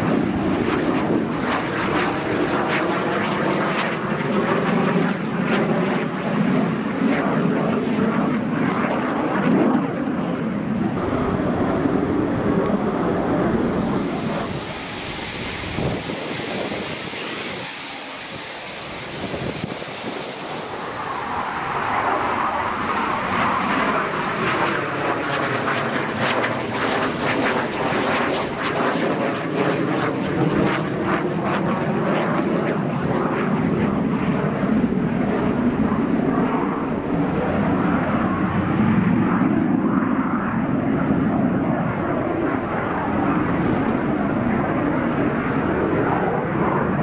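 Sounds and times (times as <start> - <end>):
jet engine roar: 0.0 - 47.0.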